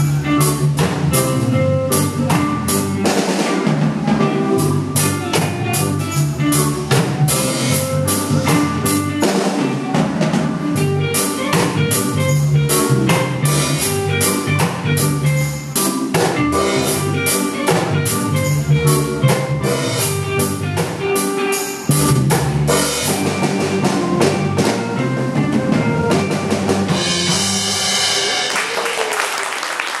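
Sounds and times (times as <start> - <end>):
reggae backing track: 0.0 - 28.5
drum kit playing: 0.0 - 28.9.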